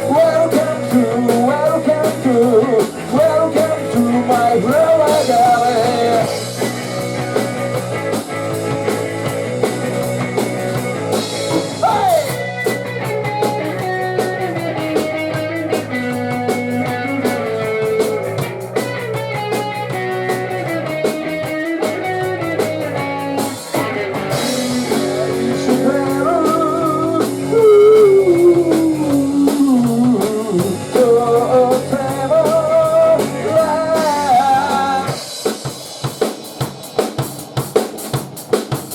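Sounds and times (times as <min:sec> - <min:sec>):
electric guitar melody: 0:00.0 - 0:35.4
live rock band playing: 0:00.0 - 0:38.9.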